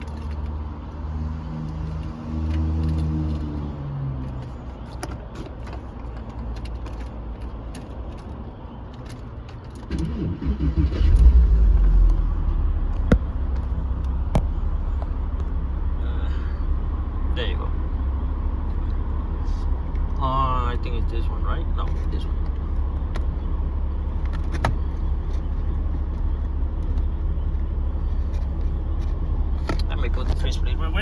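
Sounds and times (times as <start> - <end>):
car engine starting and idling: 0.0 - 31.0.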